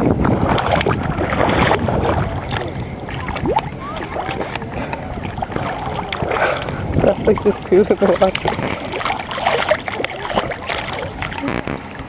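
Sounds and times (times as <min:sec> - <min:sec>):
water sloshing and splashing: 0:00.0 - 0:12.0
wind on microphone: 0:00.0 - 0:12.0.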